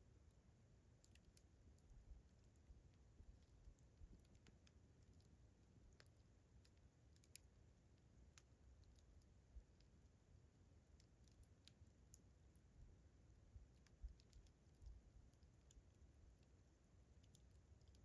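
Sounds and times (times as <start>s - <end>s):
campfire crackling: 0.1s - 18.0s.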